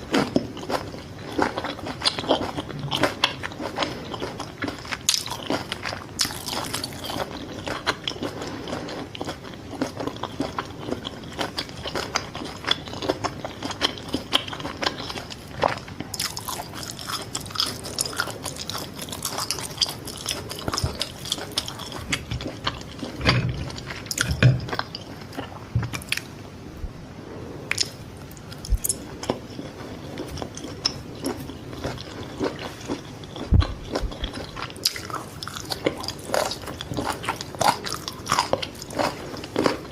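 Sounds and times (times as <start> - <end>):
crunchy chewing: 0.0 - 26.3, 27.7 - 39.9.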